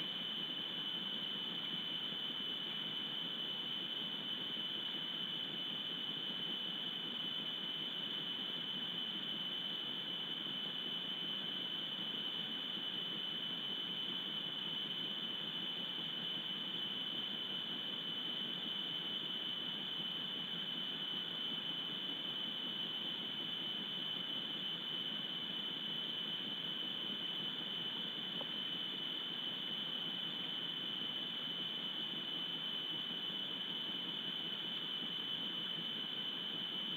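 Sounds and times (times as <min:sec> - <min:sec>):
high-pitched electronic whine: 0:00.0 - 0:36.9.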